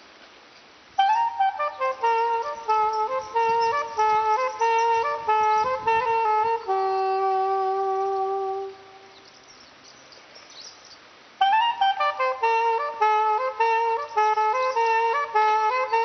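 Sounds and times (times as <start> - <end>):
solo wind instrument melody: 0.9 - 9.7, 11.3 - 16.0.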